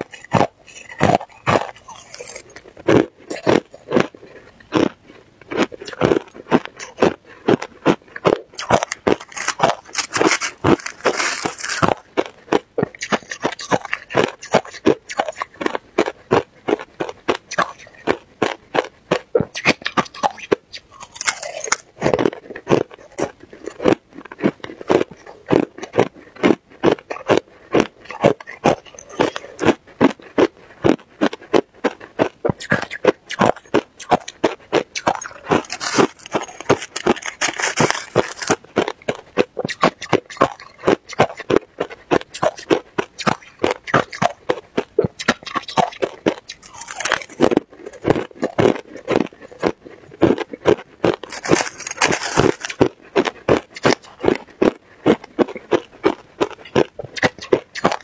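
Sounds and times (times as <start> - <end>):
crushed ice being chewed: 0.0 - 58.0.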